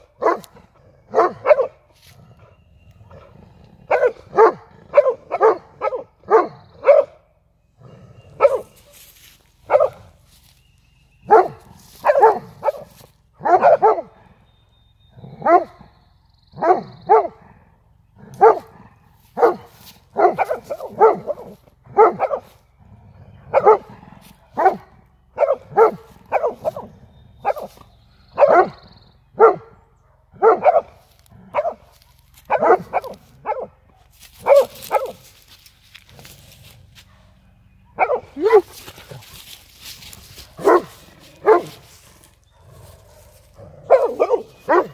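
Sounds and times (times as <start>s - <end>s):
dogs barking: 0.0s - 14.4s, 15.1s - 15.9s, 16.5s - 22.7s, 23.3s - 44.9s.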